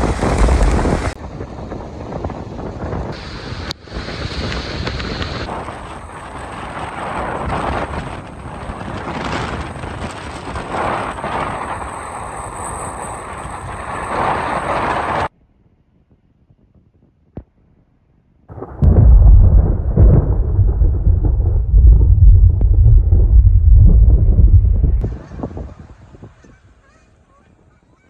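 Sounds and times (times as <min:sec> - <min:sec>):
wind buffeting microphone: 0:00.0 - 0:15.3, 0:18.5 - 0:27.8.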